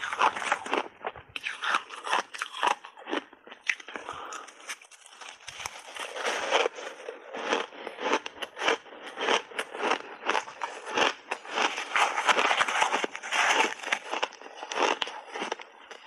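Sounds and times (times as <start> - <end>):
chewing ice crunching: 0.0 - 16.0.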